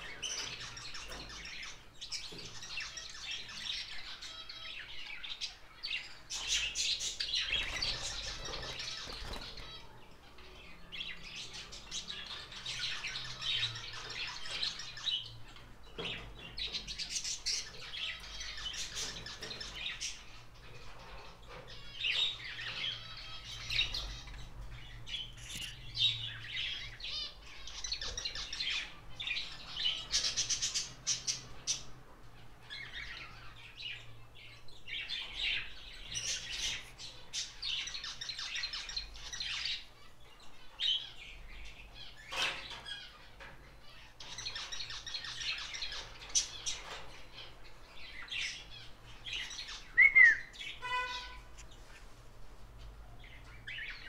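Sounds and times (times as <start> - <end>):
cage birds chirping and squawking: 0.0 - 54.0.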